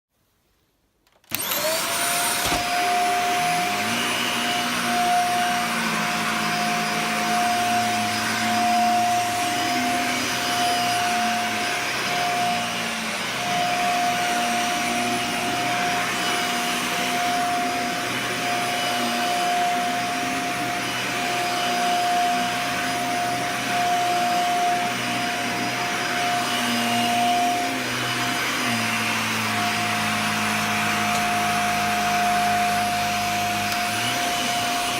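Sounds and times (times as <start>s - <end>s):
vacuum cleaner running: 1.3s - 34.9s.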